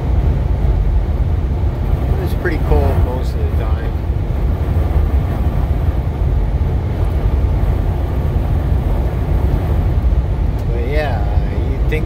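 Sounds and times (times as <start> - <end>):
road and wind noise inside vehicle: 0.0 - 12.0.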